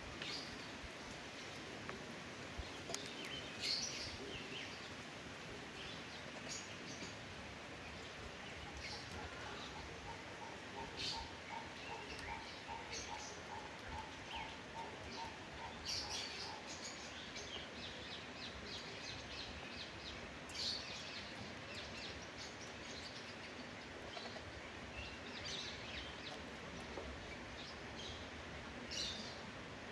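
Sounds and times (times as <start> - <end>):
small birds chirping: 0.0 - 29.5
steady background hiss: 0.0 - 29.9.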